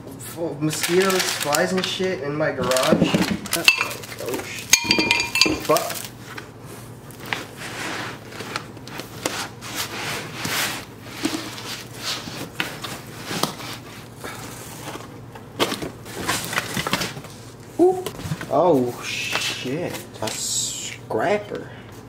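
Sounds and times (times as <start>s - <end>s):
unpacking from foam and cardboard: 0.6s - 4.7s, 5.5s - 20.4s.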